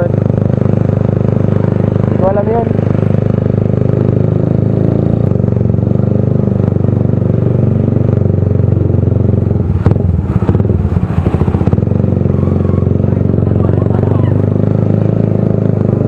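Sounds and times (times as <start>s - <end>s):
loud motorcycle engine running: 0.0s - 16.0s.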